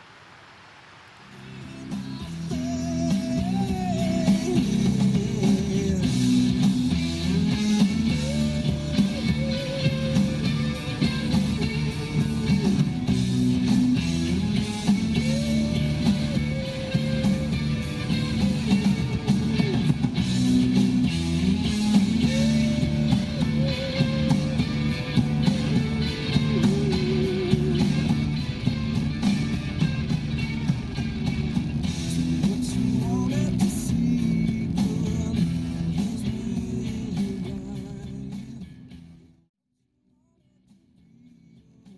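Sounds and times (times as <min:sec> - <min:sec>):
guitar-led music with steady beat: 0:01.5 - 0:39.4.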